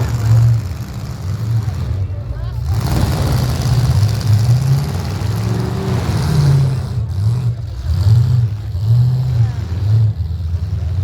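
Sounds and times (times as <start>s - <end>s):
vehicle engines revving: 0.0s - 11.0s.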